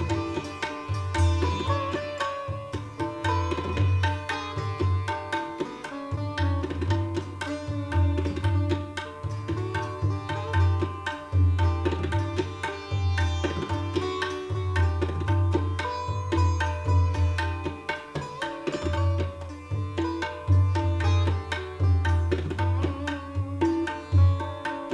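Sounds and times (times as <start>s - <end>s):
plucked sitar melody: 0.0s - 24.9s
tabla strokes: 0.0s - 24.9s.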